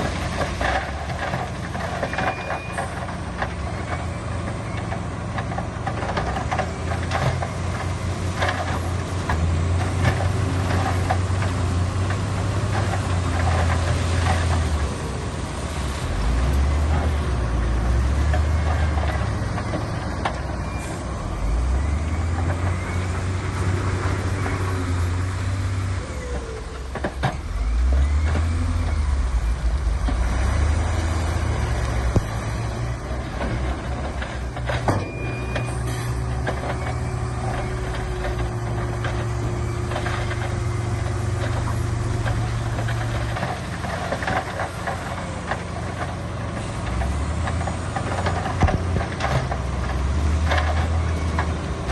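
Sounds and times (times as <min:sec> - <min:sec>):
heavy diesel engines revving: 0:00.0 - 0:51.9.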